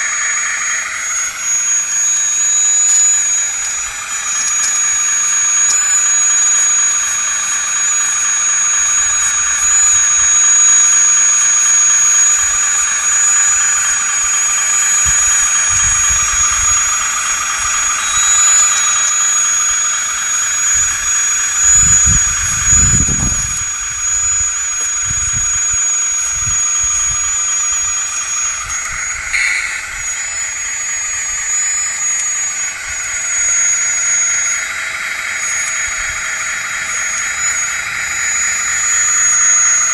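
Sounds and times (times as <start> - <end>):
hydraulic pump high whine: 0.0 - 39.9.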